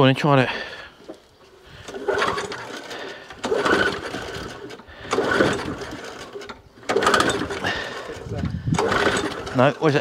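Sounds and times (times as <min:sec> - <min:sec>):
pull-cord starter whirring crank: 0:01.6 - 0:10.0.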